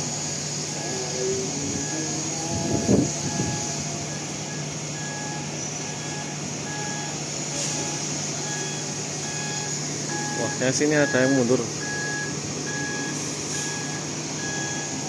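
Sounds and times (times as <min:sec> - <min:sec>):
engine hum: 0:00.0 - 0:15.0
truck reversing alarm beeping: 0:00.0 - 0:15.0.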